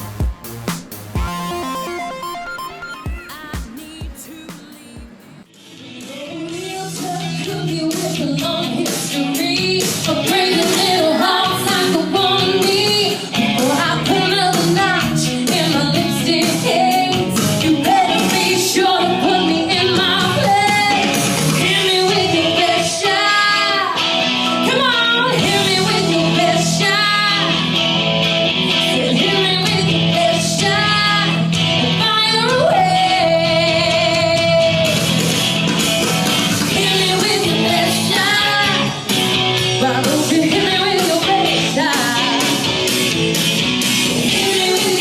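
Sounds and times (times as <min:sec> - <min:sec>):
band with guitar: 0:00.0 - 0:45.0
woman singing: 0:02.9 - 0:27.6, 0:28.8 - 0:35.0, 0:36.6 - 0:39.0, 0:39.8 - 0:42.8, 0:44.1 - 0:45.0.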